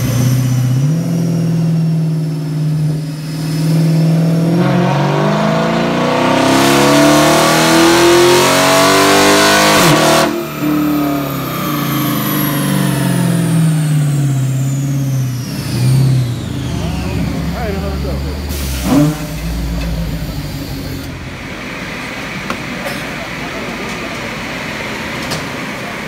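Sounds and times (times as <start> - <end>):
car engine revving on dyno: 0.0 - 26.0.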